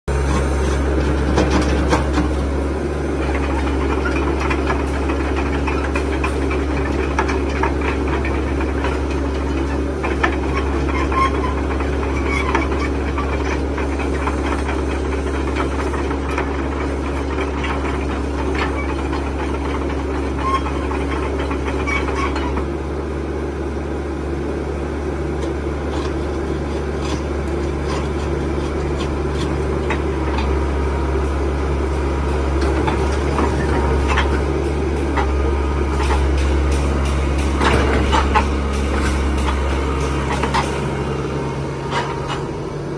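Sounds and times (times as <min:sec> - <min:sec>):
excavator diesel engine: 0:00.1 - 0:42.9.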